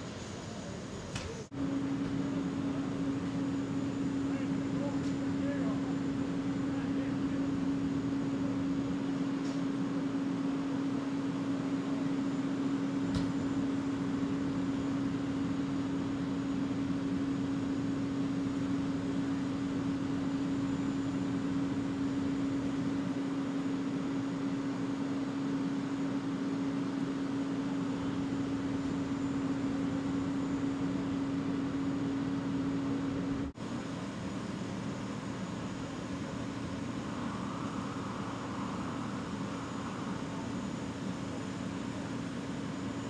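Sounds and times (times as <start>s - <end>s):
idling vehicle engines drone: 0.0s - 43.0s.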